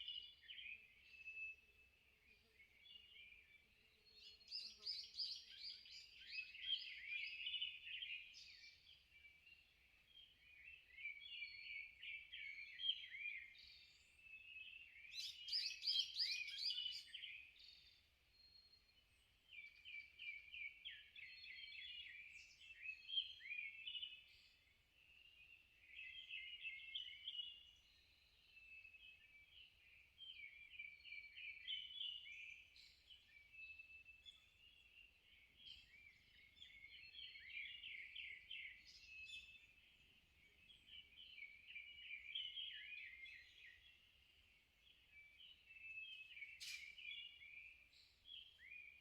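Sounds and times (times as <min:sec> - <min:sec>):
songbirds chirping and warbling: 0:00.0 - 0:49.0.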